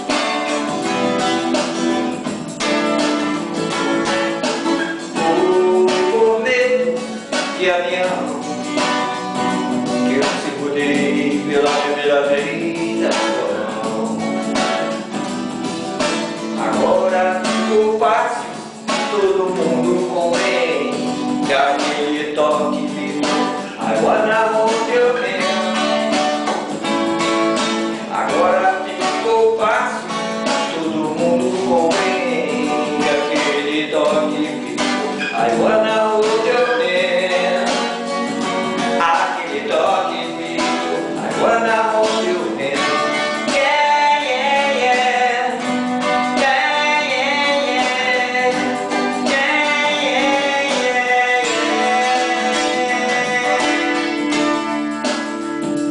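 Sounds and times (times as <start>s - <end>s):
acoustic guitar strumming: 0.0s - 55.9s
man singing: 0.0s - 55.9s.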